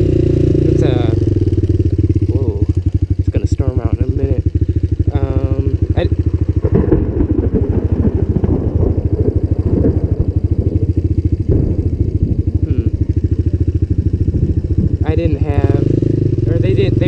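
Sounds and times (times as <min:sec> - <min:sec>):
atv engine thumping: 0:00.0 - 0:17.0.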